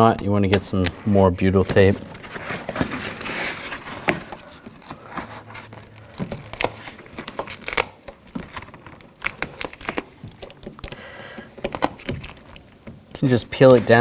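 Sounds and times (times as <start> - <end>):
plastic sheet crinkling: 0.0 - 14.0.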